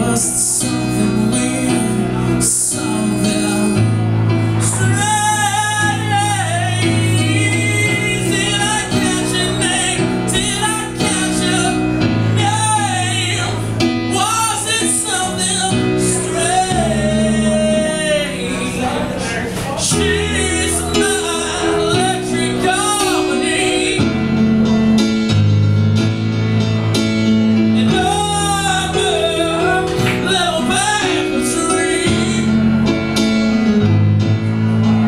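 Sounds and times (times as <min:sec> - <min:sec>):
person singing with vibrato: 0:00.0 - 0:24.9, 0:27.6 - 0:33.7
sustained instrumental chords: 0:00.0 - 0:35.0.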